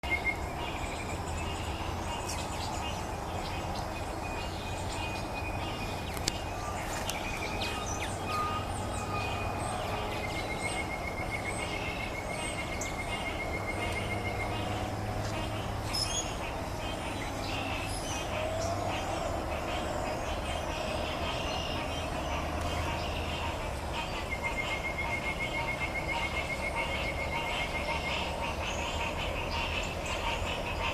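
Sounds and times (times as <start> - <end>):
bird trill: 0.0 - 30.9
birds chirping and calling: 0.0 - 30.9
constant low rumble: 0.0 - 30.9.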